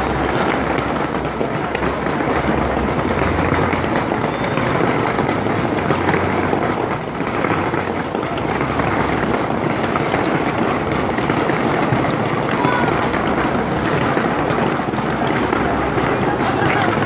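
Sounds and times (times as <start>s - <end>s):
fireworks crackles and bangs: 0.0s - 17.0s.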